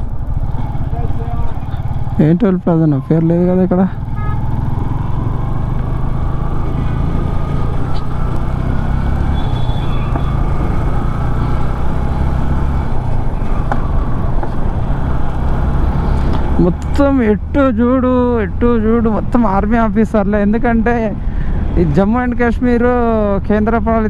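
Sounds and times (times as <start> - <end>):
motorcycle engine rumble: 0.0 - 24.0
road noise: 0.0 - 24.0.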